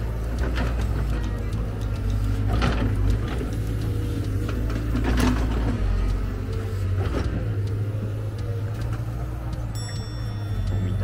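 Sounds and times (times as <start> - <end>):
heavy machinery engine rumbling: 0.0 - 11.0.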